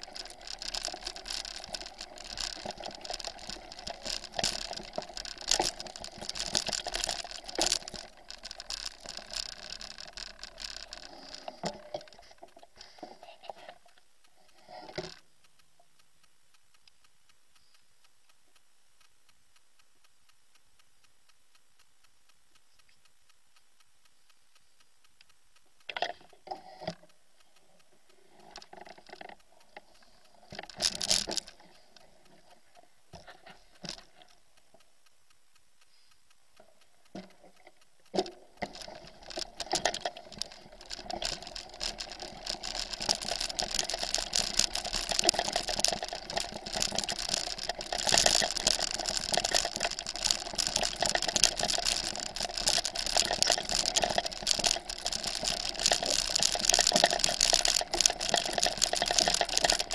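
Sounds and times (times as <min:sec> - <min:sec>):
bicycle rattling over rough track: 0:00.0 - 0:15.8, 0:25.6 - 0:35.2, 0:35.8 - 0:59.9.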